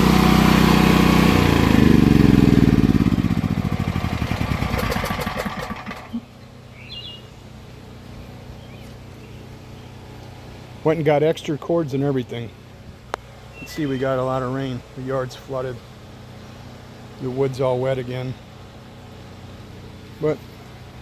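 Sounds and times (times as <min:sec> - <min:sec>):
generator engine running and stopping: 0:00.0 - 0:11.2, 0:12.6 - 0:21.0.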